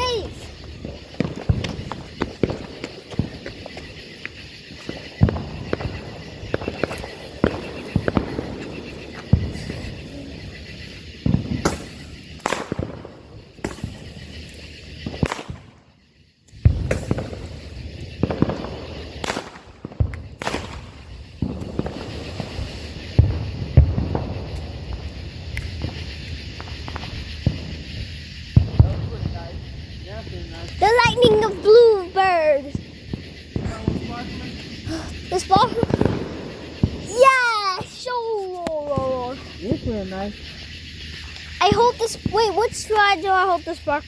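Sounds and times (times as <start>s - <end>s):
fireworks popping and crackling: 0.0s - 44.0s.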